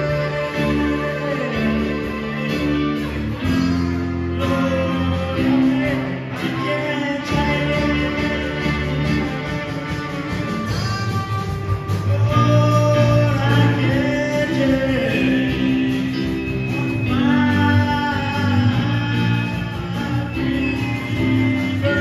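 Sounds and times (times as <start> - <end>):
electric lead guitar bent notes: 0.0 - 22.0
rock band playing: 0.0 - 22.0.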